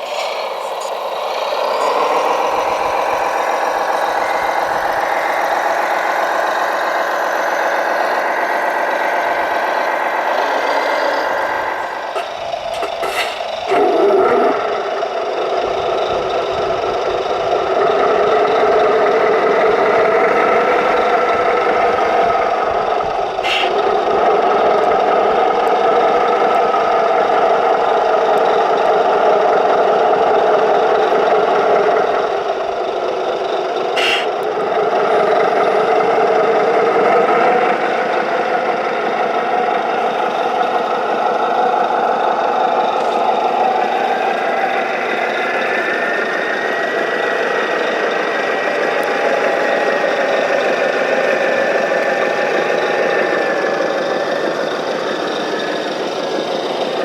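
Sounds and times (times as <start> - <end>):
model truck motor drone: 0.0 - 57.0.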